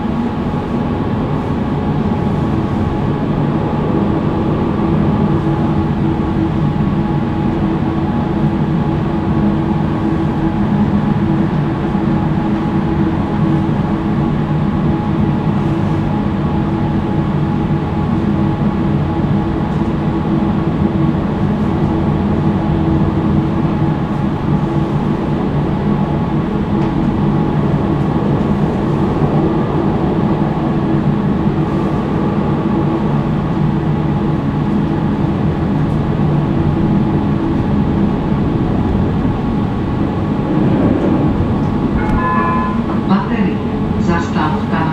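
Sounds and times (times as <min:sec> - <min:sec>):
tram motor hum: 0:00.0 - 0:44.9
wheels rumbling on rails: 0:00.0 - 0:44.9.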